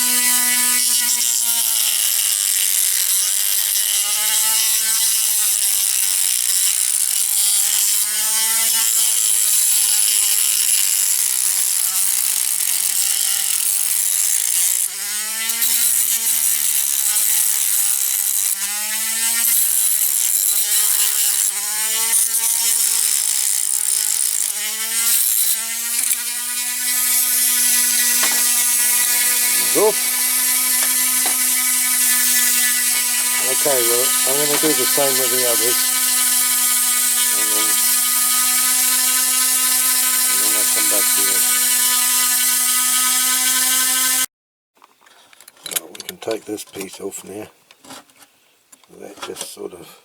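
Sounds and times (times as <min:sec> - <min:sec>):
rotary tool grinding metal: 0:00.0 - 0:44.3.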